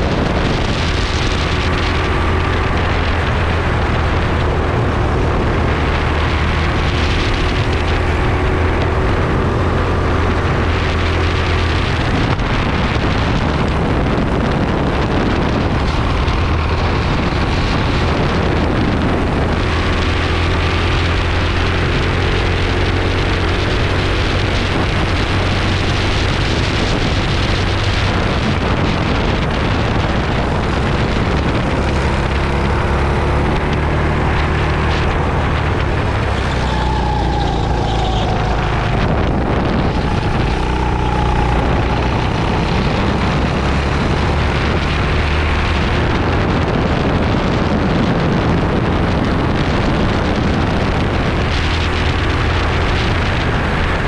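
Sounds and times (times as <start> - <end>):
go-kart engine running hard: 0.0 - 54.0
wind noise on microphone: 0.0 - 54.0.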